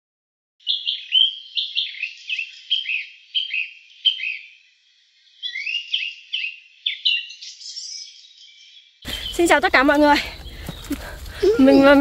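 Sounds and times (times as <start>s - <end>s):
songbird chirping: 0.6s - 12.0s.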